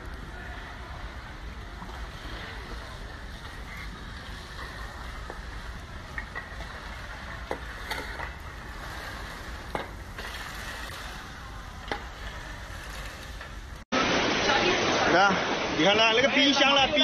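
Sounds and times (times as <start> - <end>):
floodwater sloshing: 0.0 - 17.0
sharp water splashes: 2.0 - 17.0.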